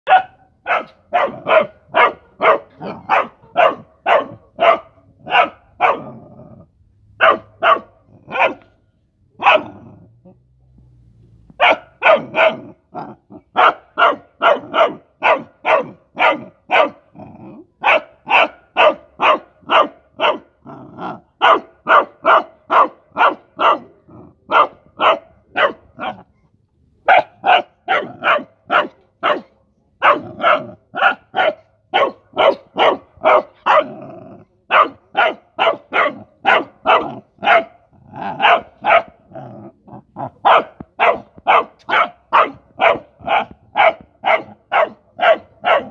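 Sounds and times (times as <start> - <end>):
puppy barking: 0.0 - 6.2, 7.2 - 8.8, 9.4 - 9.9, 11.6 - 17.1, 17.8 - 26.3, 27.0 - 34.0, 34.7 - 39.4, 40.0 - 45.9.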